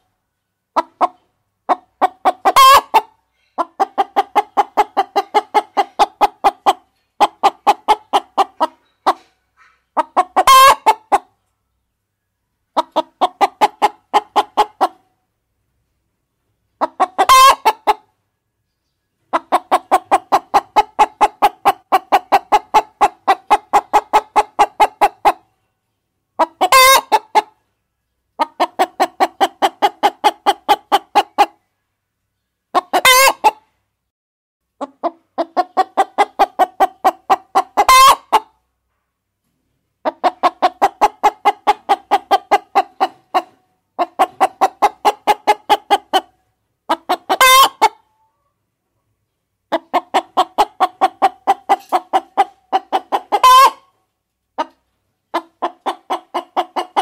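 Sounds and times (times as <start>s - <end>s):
hens clucking: 0.7s - 11.5s, 12.6s - 15.2s, 16.6s - 18.2s, 19.2s - 25.6s, 26.3s - 27.7s, 28.3s - 31.7s, 32.7s - 33.8s, 34.8s - 38.7s, 39.5s - 48.5s, 49.2s - 57.0s.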